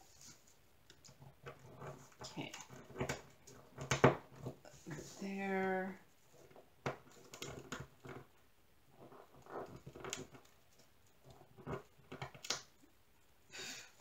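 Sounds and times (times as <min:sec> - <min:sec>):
plastic scraping: 0:00.1 - 0:12.7.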